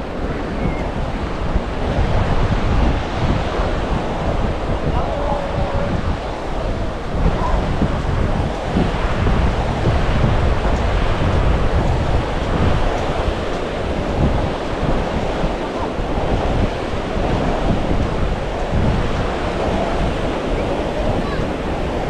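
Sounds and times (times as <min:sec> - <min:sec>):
ocean surf washing onto beach: 0:00.0 - 0:22.0
wind rumbling on microphone: 0:00.0 - 0:22.0.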